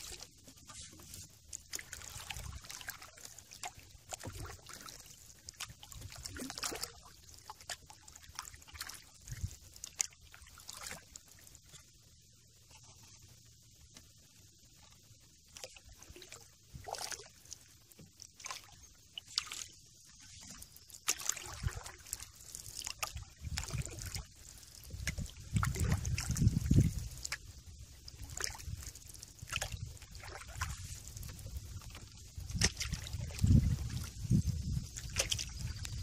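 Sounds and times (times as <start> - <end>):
water sloshing: 0.0 - 11.2, 15.5 - 36.0
paddle splashing water: 0.0 - 12.0, 13.8 - 36.0.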